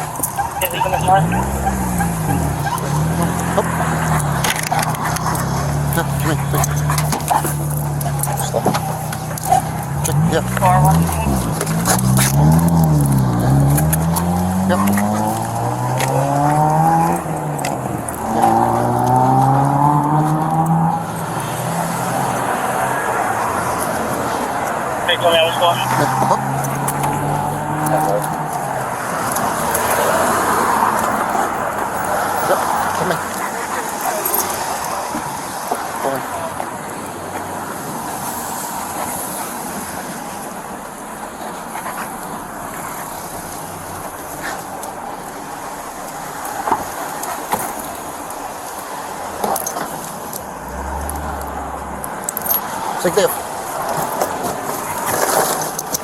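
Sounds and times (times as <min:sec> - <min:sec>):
steady road noise: 0:00.0 - 0:56.0
vehicles accelerating past: 0:00.0 - 0:56.0.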